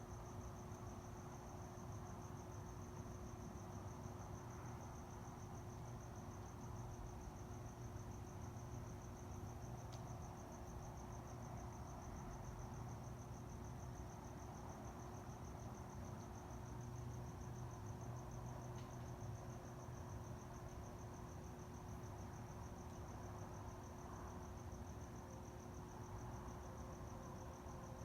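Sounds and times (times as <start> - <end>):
cricket chirping: 0.0 - 28.0
faint steady hum: 0.0 - 28.0.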